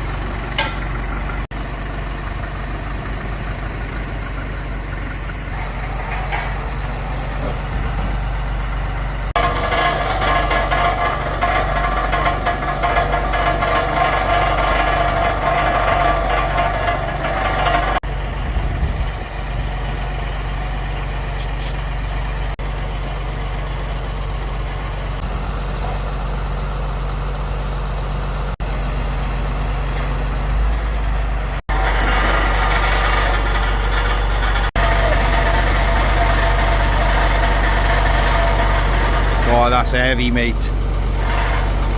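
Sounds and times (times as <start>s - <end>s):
forklift engine idling: 0.0s - 41.9s.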